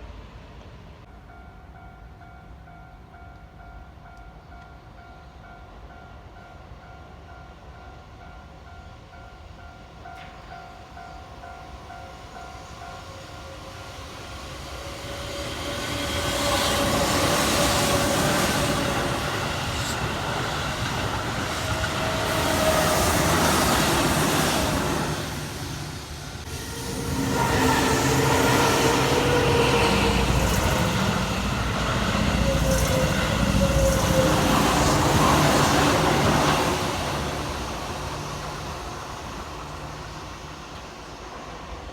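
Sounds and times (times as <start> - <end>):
trains running past: 0.0 - 41.9.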